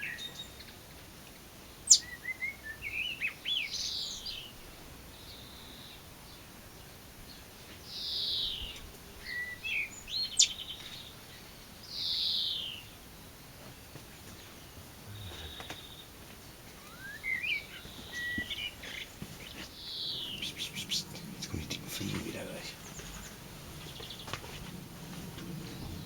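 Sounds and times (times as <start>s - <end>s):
songbird singing: 0.0s - 1.0s, 1.6s - 26.0s.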